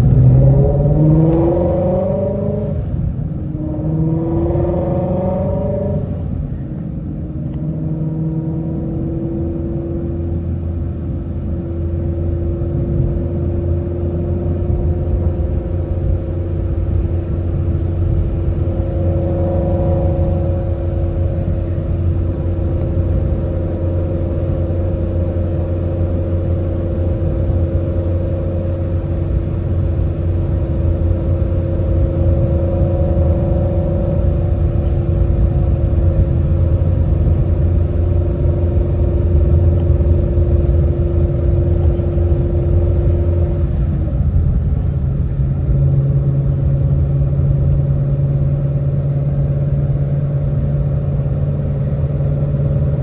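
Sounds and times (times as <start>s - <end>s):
car engine droning: 0.0s - 53.0s
road rumble: 0.0s - 53.0s.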